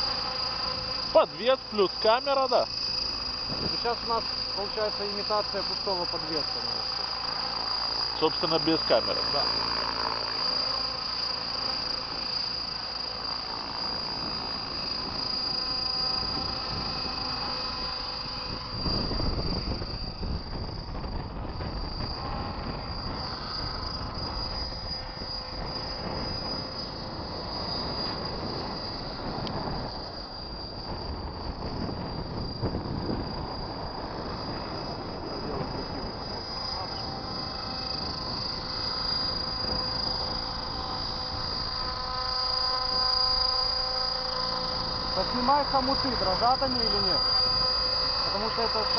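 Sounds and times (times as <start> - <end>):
wind on microphone: 0.0 - 10.4, 13.3 - 48.9
helicopter drive whine: 0.0 - 48.9
rotors whirring: 0.0 - 48.9.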